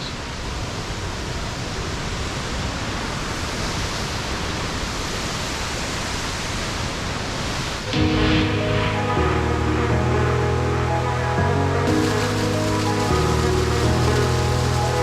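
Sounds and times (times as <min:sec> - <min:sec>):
waterfall rushing: 0:00.1 - 0:15.0.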